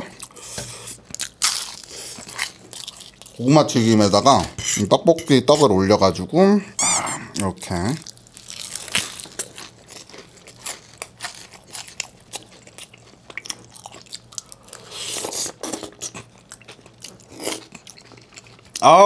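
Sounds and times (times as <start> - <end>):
crunching fried food: 0.0 - 3.9, 7.4 - 19.0.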